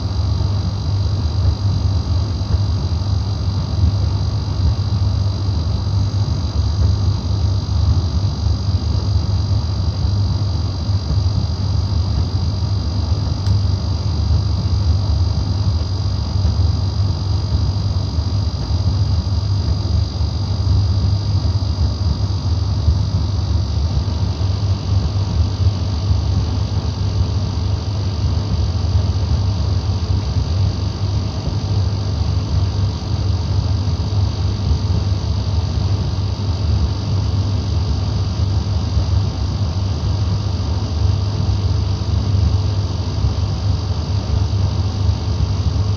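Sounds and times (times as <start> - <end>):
tumble dryer humming: 0.0 - 37.2.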